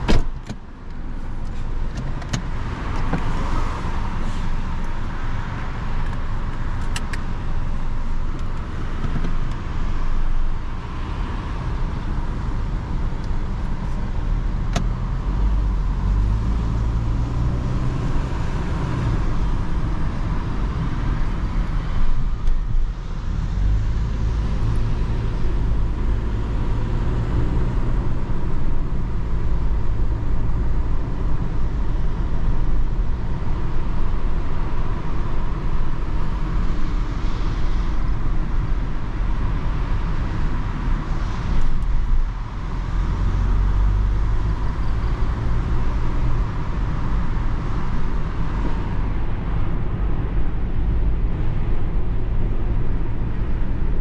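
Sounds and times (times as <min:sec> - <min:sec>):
car engine drone accelerating: 0:00.0 - 0:54.0
road and tyre noise: 0:00.0 - 0:54.0.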